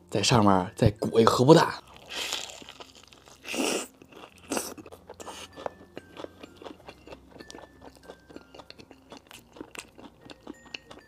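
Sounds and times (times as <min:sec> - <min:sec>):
chewing fried food: 0:01.8 - 0:11.0.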